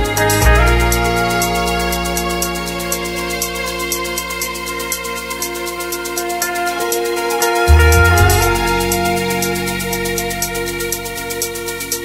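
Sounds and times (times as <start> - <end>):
chill electronic music: 0.0 - 12.0.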